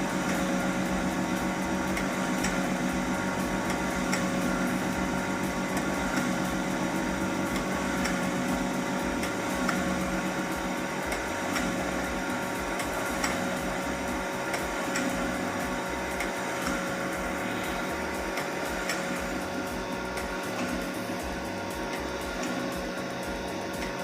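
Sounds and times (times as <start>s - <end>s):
flour mill motor humming: 0.0s - 24.0s.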